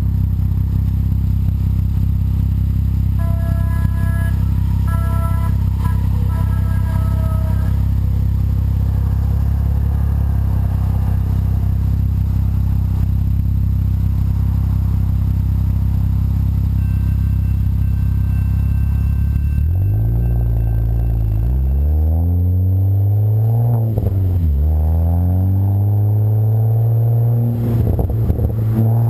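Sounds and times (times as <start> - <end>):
car engine idling: 0.0 - 24.7, 26.9 - 29.0.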